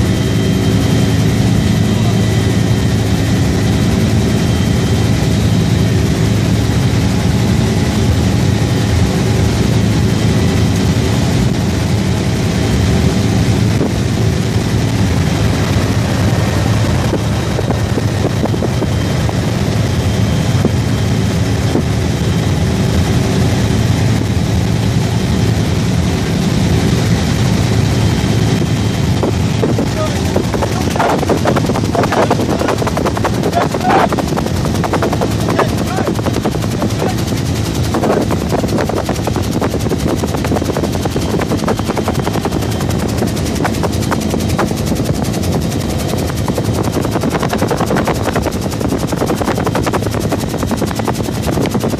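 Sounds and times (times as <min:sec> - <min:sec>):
constant whining tones: 0:00.0 - 0:51.9
helicopter engine drone: 0:00.0 - 0:51.9.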